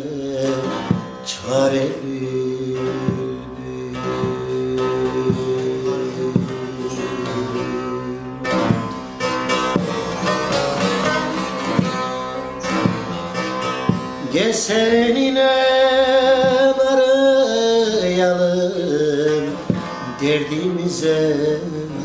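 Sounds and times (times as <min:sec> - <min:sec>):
long-necked lute picking: 0:00.0 - 0:22.0
man singing folk style: 0:00.0 - 0:22.0.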